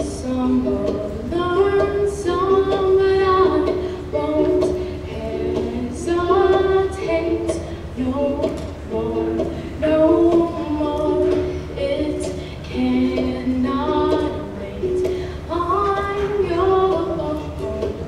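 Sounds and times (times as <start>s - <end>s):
ukulele strumming: 0.0s - 18.0s
woman singing: 0.0s - 18.0s.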